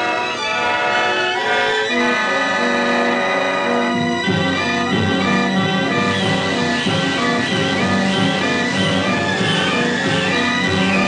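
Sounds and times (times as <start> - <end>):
orchestral music with held strings: 0.0 - 11.0.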